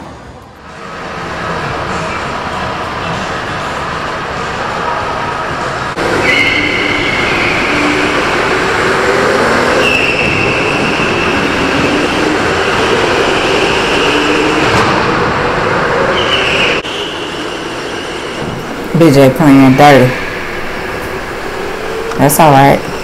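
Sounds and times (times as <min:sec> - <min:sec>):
rumbling drive and track noise: 0:00.0 - 0:23.0.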